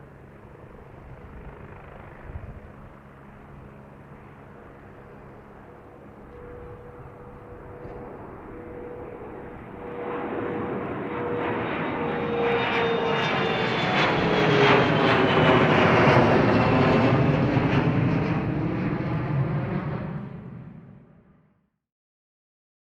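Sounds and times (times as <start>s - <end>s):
airliner engines taking off: 0.0s - 21.4s
jet engine whine: 0.0s - 21.6s.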